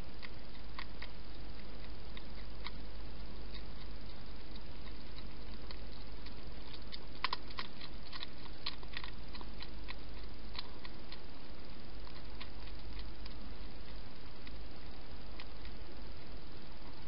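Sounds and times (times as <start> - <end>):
hedgehog crunching food: 0.0 - 17.0
low hum and hiss: 0.0 - 17.0.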